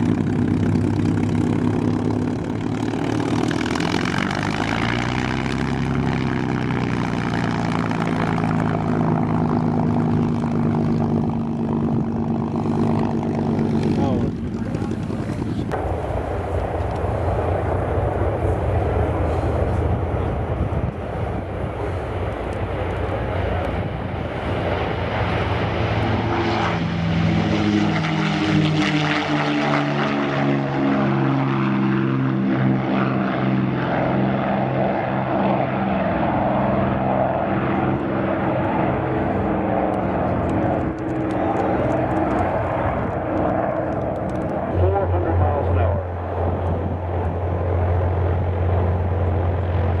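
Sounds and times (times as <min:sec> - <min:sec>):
propeller plane engines droning: 0:00.0 - 0:50.0.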